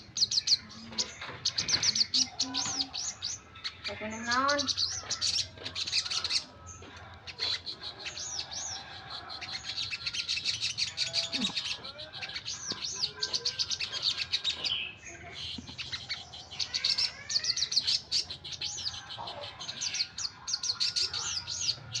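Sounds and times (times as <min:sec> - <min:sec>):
songbird chirping and twittering: 0:00.0 - 0:22.0.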